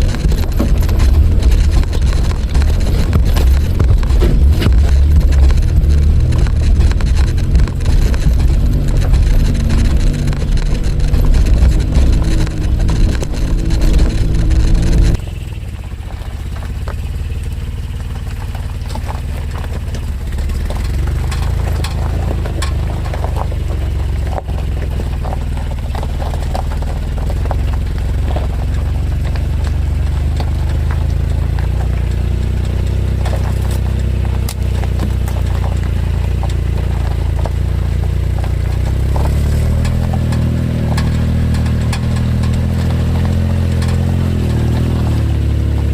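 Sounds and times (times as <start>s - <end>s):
faint clicks and rattles: 0.0s - 15.4s, 18.2s - 45.9s
engine and road rumble: 0.0s - 45.9s.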